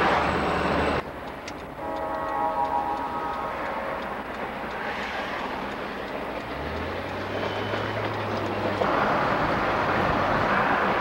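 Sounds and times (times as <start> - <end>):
road and wind noise in car: 0.0 - 11.0.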